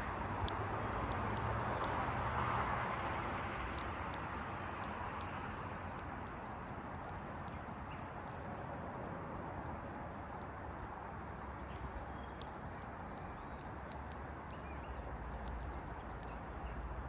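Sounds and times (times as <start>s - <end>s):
beaks pecking seed on concrete: 0.0s - 17.0s.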